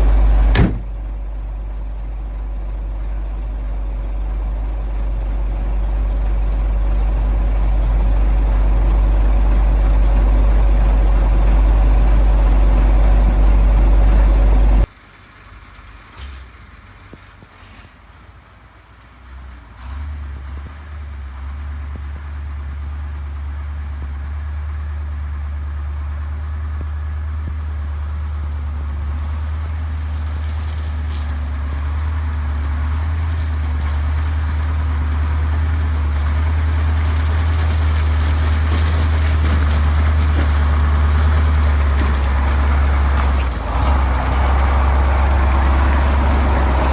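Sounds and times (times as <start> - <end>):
truck diesel engine droning: 0.0 - 18.3, 19.0 - 46.9.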